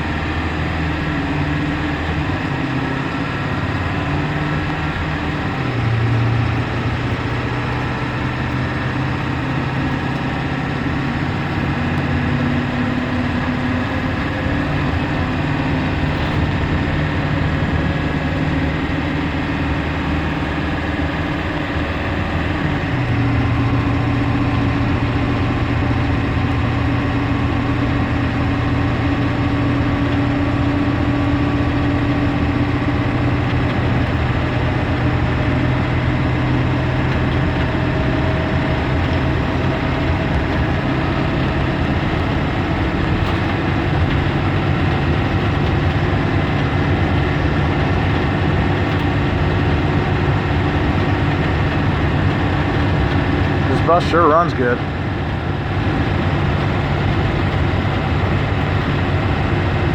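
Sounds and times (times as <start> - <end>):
diesel engine running: 0.0 - 59.9
road noise: 0.0 - 59.9.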